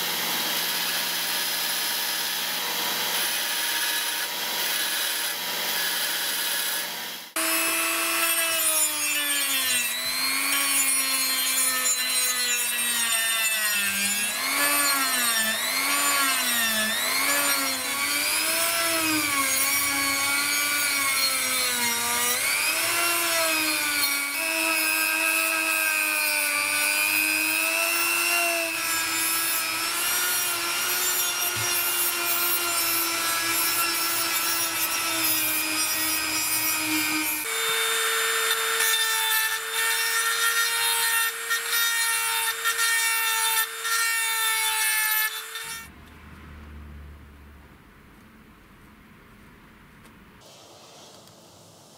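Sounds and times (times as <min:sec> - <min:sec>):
belt grinder: 0:00.0 - 0:45.9
rotary tool grinding steel: 0:00.0 - 0:45.9.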